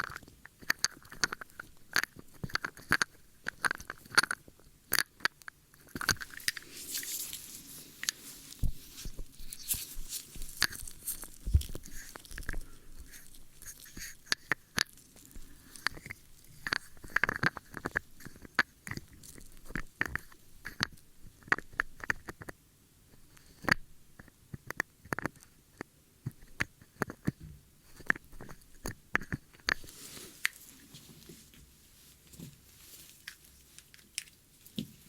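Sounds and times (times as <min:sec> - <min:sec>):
ear cleaning clicks and scrapes: 0:00.0 - 0:31.3.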